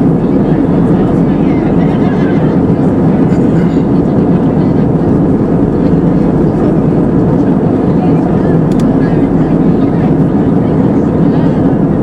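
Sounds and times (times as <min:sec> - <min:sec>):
airflow over fuselage: 0:00.0 - 0:12.0
jet engine roar in cabin: 0:00.0 - 0:12.0.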